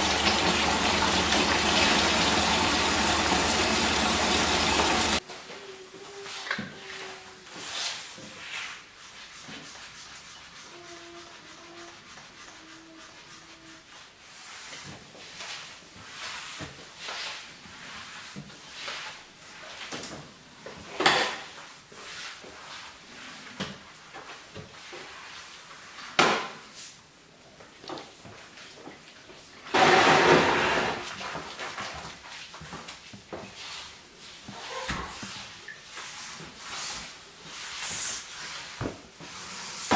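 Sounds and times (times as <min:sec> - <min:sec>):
wet mop swishing on tiled floor: 0:00.0 - 0:39.9.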